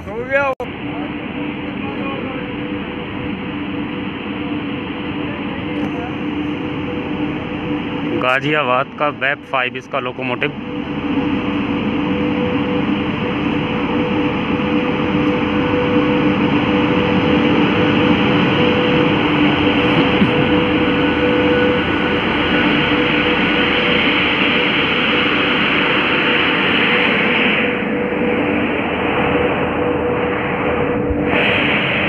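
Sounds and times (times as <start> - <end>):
locomotive low tones: 0.0 - 32.0
train wheels rumbling on rail: 0.0 - 32.0.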